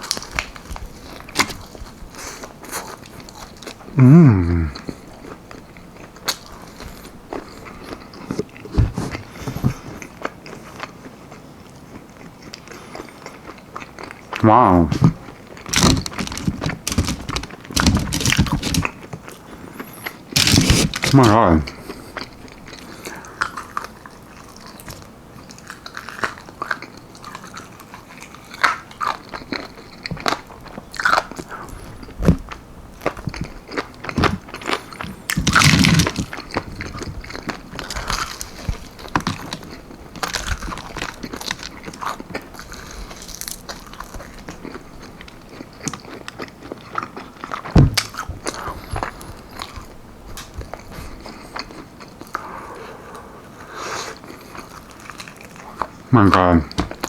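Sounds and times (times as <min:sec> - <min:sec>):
biting and chewing: 0:00.0 - 0:57.0.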